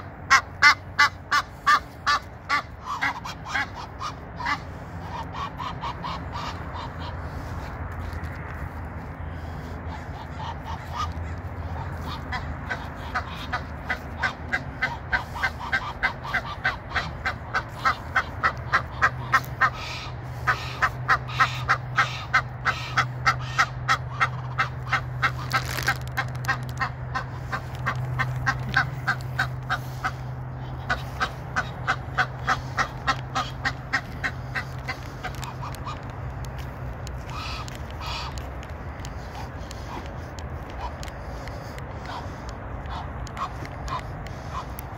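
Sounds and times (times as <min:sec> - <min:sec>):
geese honking: 0:00.0 - 0:44.9.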